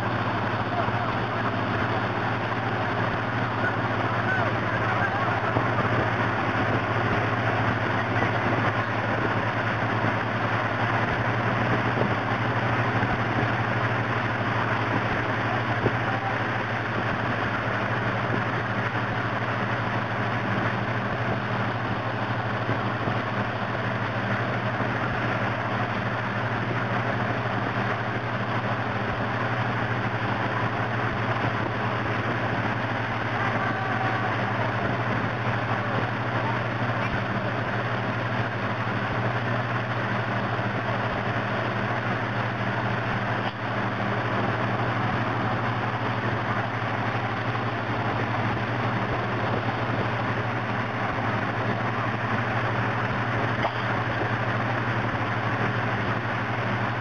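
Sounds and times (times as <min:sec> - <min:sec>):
churning water: 0:00.0 - 0:57.0
motorboat engine droning: 0:00.0 - 0:57.0.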